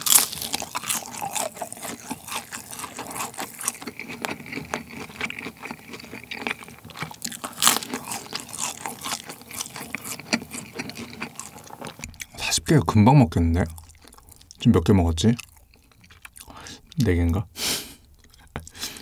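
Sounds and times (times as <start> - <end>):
crispy fried food crunching: 0.0 - 17.4.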